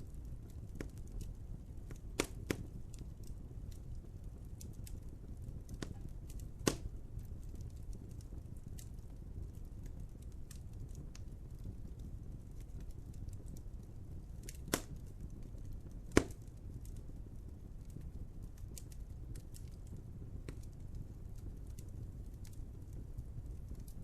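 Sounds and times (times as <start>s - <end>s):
fire popping: 0.0s - 24.0s
wood fire crackling: 0.0s - 24.0s.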